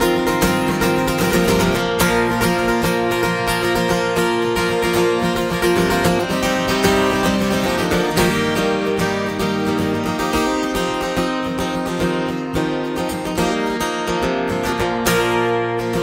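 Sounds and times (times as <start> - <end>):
acoustic guitar picking: 0.0 - 16.0.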